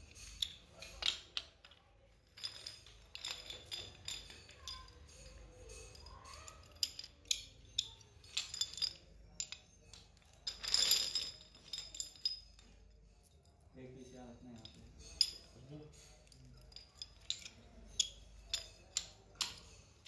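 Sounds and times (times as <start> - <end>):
metallic clicks and clinks: 0.0 - 20.0.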